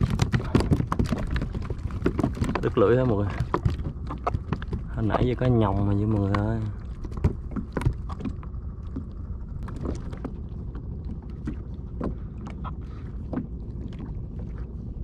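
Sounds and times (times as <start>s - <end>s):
water lapping against kayak hull: 0.0s - 15.0s
wind rumble on microphone: 0.0s - 15.0s.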